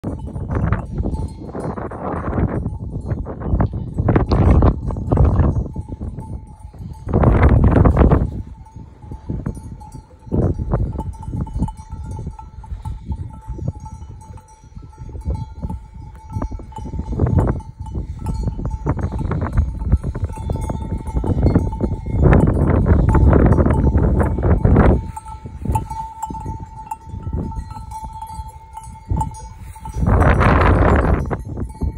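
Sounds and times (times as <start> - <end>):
sheep bells clinking: 0.0 - 31.9
wind buffeting microphone: 0.0 - 31.9.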